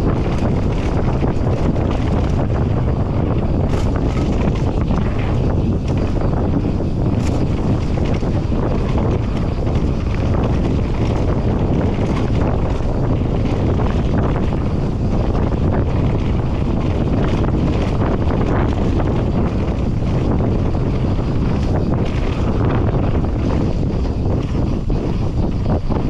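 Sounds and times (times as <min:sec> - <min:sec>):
bike clicks and knocks: 0:00.0 - 0:26.0
wind rushing over microphone: 0:00.0 - 0:26.0.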